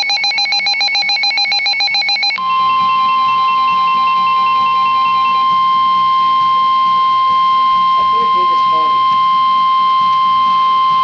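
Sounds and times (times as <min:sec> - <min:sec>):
steady warning tone: 0:00.0 - 0:11.0
pulsing electronic warble: 0:01.8 - 0:11.0.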